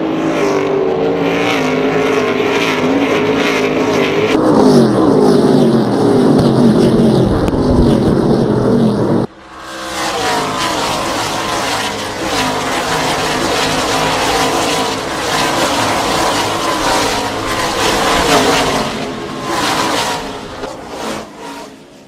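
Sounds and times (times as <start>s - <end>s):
race car engines at speed: 0.0s - 22.0s.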